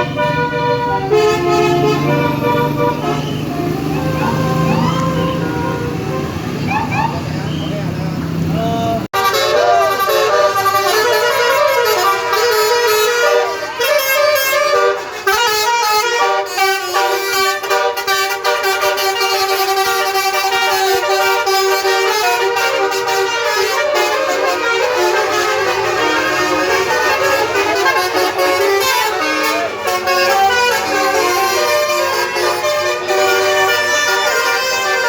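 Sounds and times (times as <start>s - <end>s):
air horns playing a melody: 0.0s - 6.5s, 9.1s - 35.0s.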